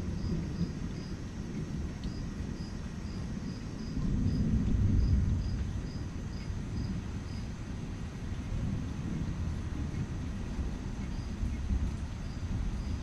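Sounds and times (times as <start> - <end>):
cricket chirping: 0.0 - 7.7, 9.9 - 13.0
distant thunder rumbling: 0.0 - 13.0.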